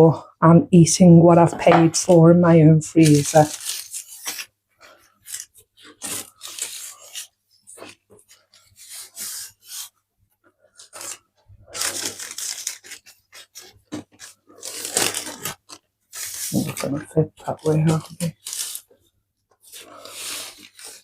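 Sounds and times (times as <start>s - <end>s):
hands rustling and scraping: 3.0s - 21.0s.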